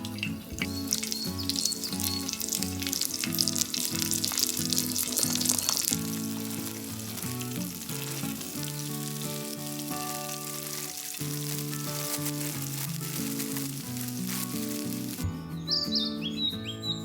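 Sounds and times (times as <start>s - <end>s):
food sizzling in frying: 0.0s - 15.3s
background music sustained notes: 0.0s - 17.0s.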